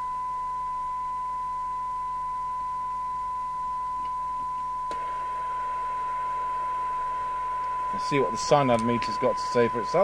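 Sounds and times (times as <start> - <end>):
steady radio test tone: 0.0 - 10.0.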